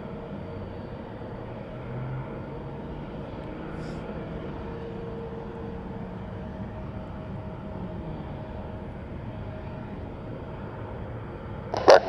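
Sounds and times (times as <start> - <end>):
jet engines rumbling: 0.3 - 12.0.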